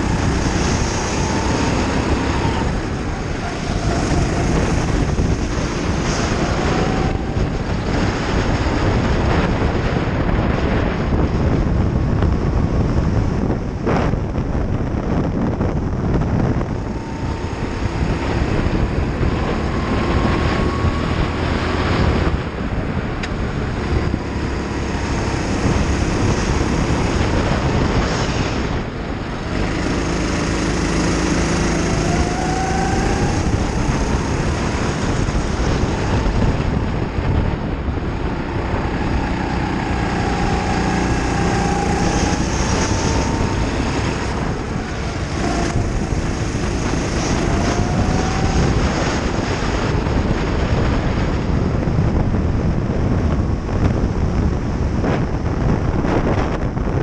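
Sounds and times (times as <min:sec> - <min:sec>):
racing kart engine running hard: 0:00.0 - 0:57.0
wind noise: 0:00.0 - 0:57.0.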